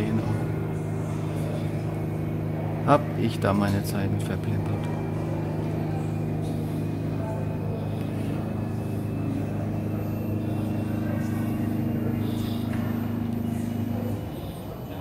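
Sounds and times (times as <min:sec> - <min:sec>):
low hum of held tones: 0:00.0 - 0:15.0.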